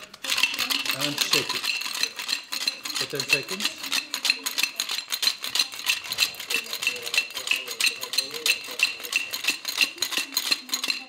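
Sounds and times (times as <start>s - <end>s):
cocktail shaker rattling: 0.0s - 11.0s.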